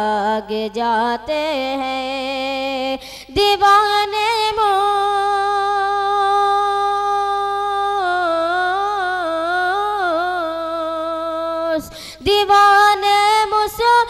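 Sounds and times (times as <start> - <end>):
boy singing unaccompanied: 0.0 - 14.0.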